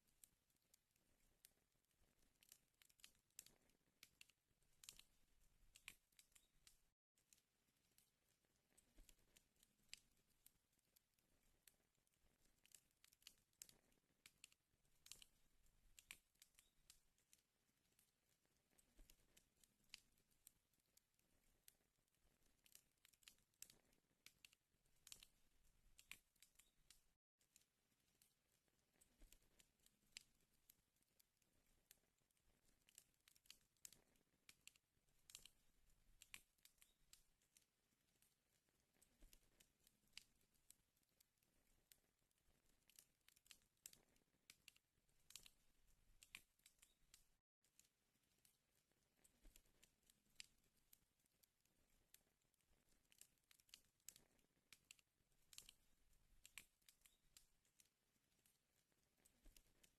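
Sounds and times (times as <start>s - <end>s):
wood fire crackling: 0.1s - 51.0s, 51.7s - 59.9s.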